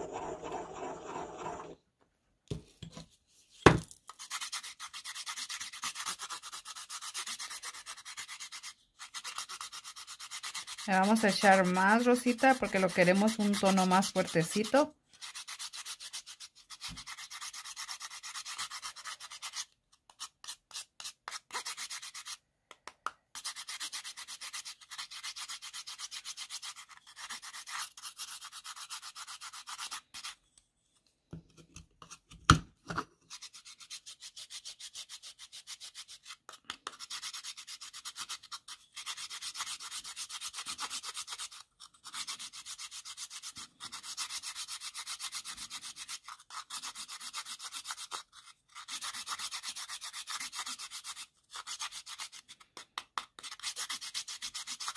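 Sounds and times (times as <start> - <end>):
chalk rasping on metal grater: 0.0 - 1.8, 4.1 - 22.4, 23.3 - 30.4, 33.3 - 52.8, 53.4 - 54.9.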